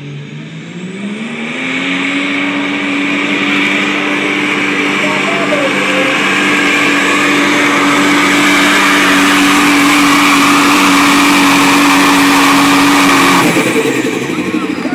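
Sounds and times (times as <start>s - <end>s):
diesel engine at full throttle: 0.0s - 14.9s.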